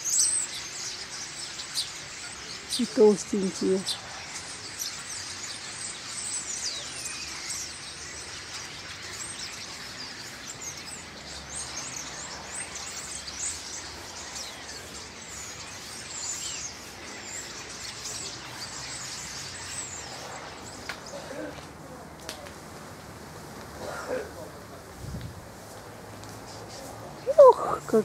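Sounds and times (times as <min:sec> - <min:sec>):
starling flock calling: 0:00.0 - 0:21.7, 0:25.6 - 0:28.0.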